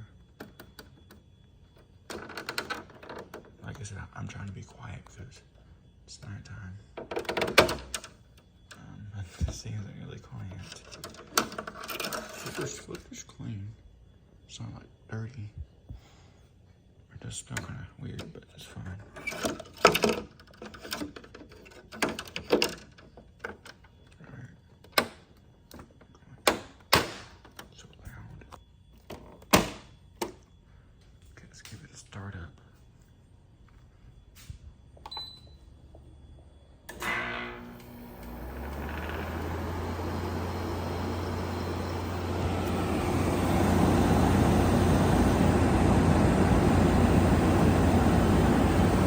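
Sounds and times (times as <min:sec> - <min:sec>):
air conditioner hum: 0:00.0 - 0:49.0.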